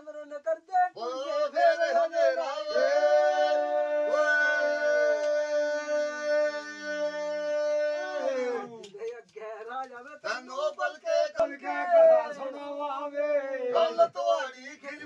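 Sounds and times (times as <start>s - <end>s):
men singing unaccompanied folk song: 0.0s - 15.0s.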